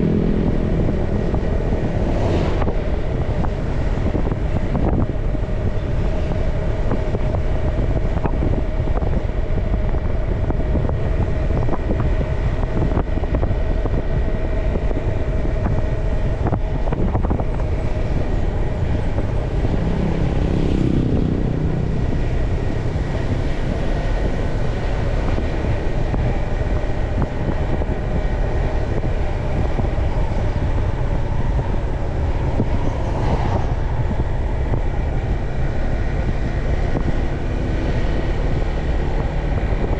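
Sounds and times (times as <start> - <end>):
motorbike engine and road noise: 0.0 - 39.9
passing rush: 0.0 - 39.9
steady whine: 0.0 - 39.9.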